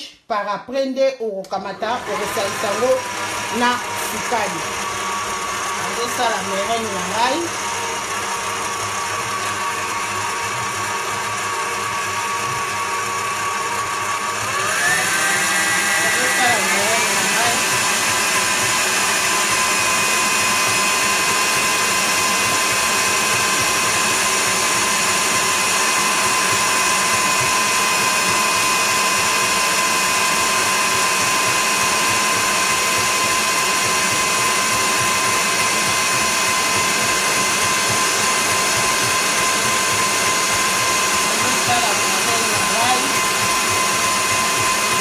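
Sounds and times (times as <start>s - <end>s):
stand mixer motor whirring: 1.8s - 45.0s.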